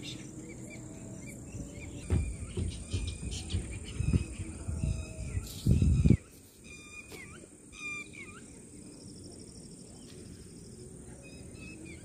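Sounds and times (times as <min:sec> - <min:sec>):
birds chirping and trilling: 0:00.0 - 0:12.0
faint steady background hum: 0:00.0 - 0:12.0.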